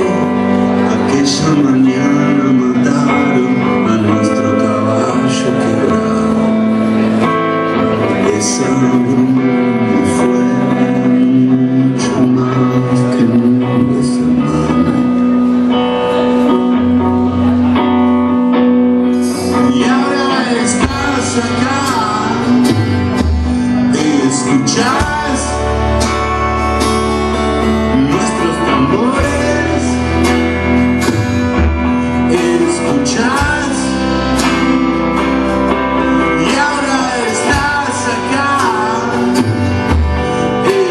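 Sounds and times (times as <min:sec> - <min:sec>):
man singing: 0:00.0 - 0:18.4, 0:19.0 - 0:40.9
bass guitar: 0:00.0 - 0:40.9
drums: 0:00.0 - 0:40.9
electric and acoustic guitars: 0:00.0 - 0:40.9.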